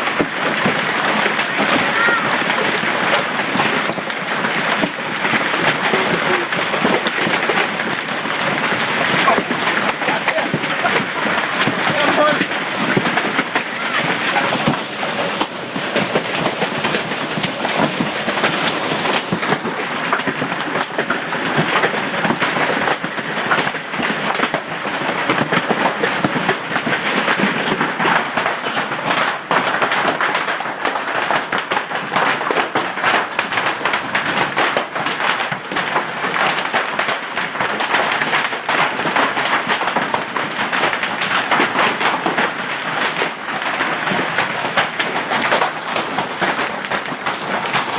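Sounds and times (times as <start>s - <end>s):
hail and heavy rain: 0.0s - 47.9s.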